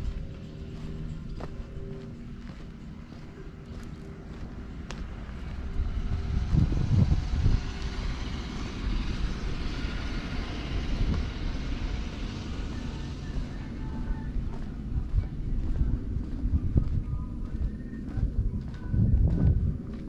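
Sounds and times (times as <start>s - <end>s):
wind buffeting microphone: 3.2s - 20.0s.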